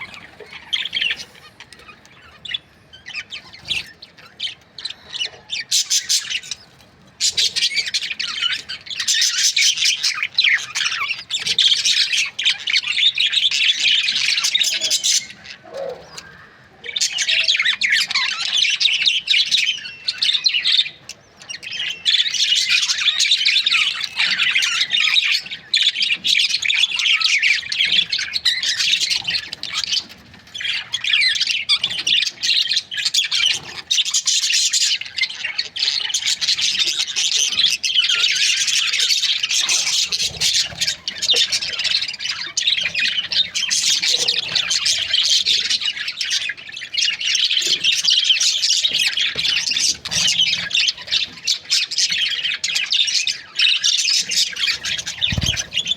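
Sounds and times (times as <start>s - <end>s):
budgerigars chirping and chattering: 0.0s - 55.9s.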